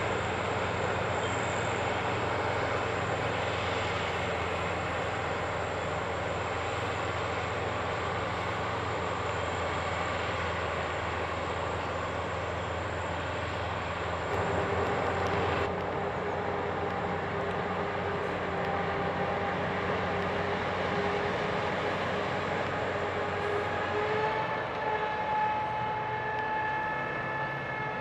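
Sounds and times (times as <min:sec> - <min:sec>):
heavy diesel machinery running: 0:00.0 - 0:28.0
mid-pitched whine: 0:00.0 - 0:28.0.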